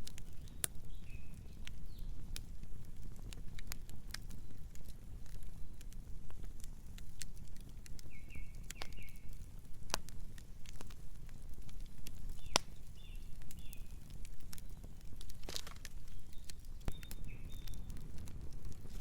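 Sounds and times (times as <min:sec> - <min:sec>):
campfire crackling: 0:00.0 - 0:19.0
sharp fire pops: 0:00.0 - 0:19.0.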